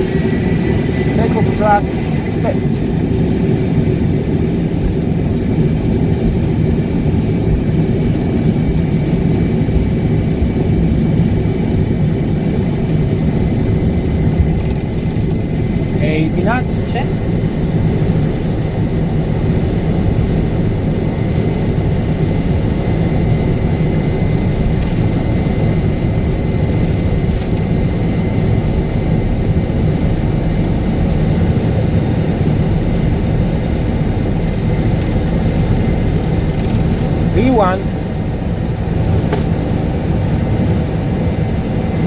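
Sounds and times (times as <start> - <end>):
aircraft rolling down runway: 0.0 - 42.0
jet engines rumbling at takeoff: 0.0 - 42.0.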